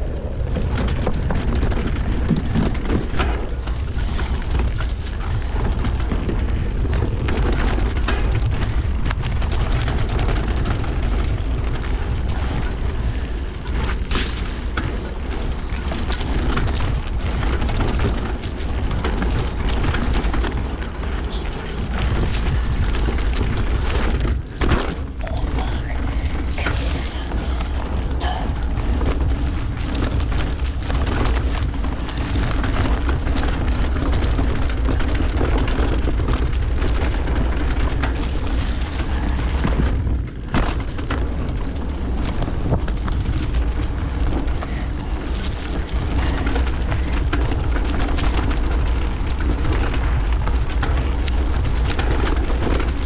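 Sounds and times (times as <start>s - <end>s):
rolling noise of ride: 0.0s - 53.0s
wind buffeting microphone: 0.0s - 53.0s.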